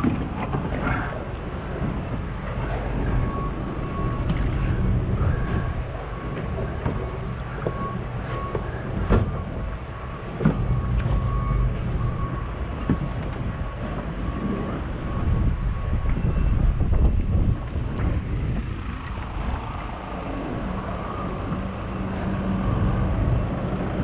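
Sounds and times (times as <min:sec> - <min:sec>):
boat engine rumble: 0:00.0 - 0:24.0
wind on microphone: 0:00.0 - 0:24.0.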